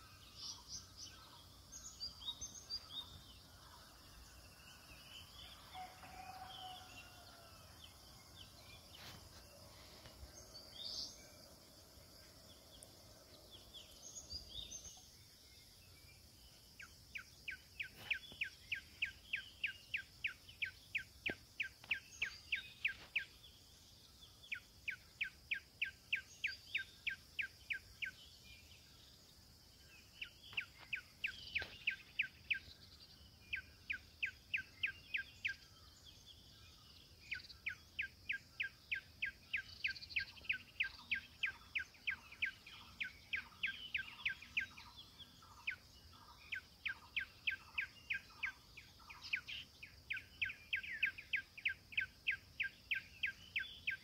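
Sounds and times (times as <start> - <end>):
high-pitched insect hum: 0.0 - 54.0.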